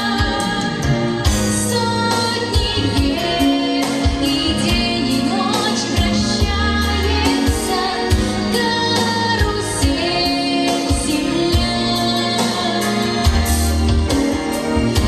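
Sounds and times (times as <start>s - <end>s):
backing track with steady beat: 0.0s - 15.0s
woman singing: 0.0s - 15.0s.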